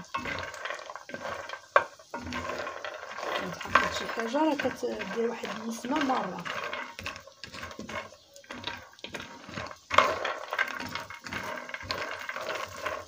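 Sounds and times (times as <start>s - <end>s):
nuts rattling in frying pan: 0.0s - 13.0s
spatula clatter: 0.0s - 13.0s.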